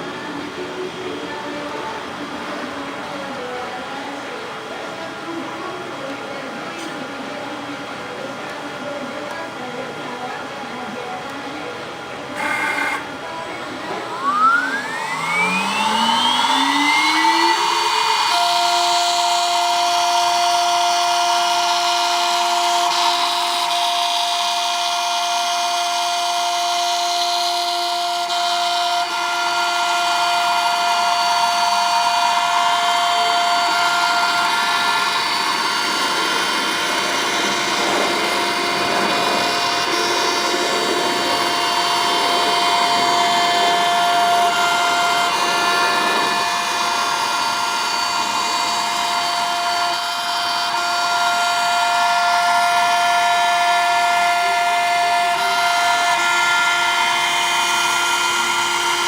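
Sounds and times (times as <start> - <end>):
router spindle high whine: 0.0 - 59.0.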